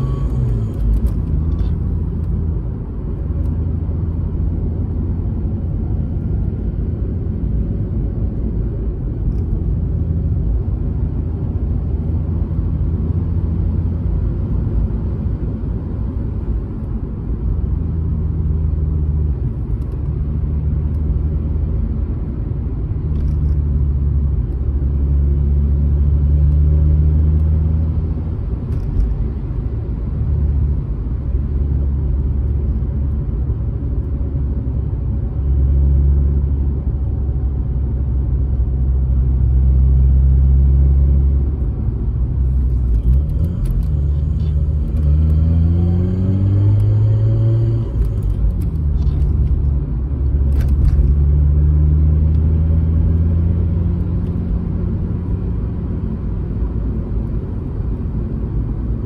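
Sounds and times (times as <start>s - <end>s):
car engine drone: 0.0s - 59.0s
road rumble: 0.0s - 59.0s.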